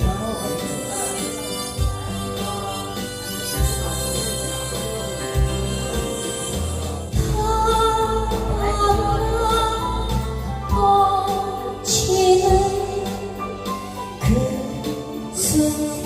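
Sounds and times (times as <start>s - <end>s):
slow ballad accompaniment: 0.0s - 16.0s.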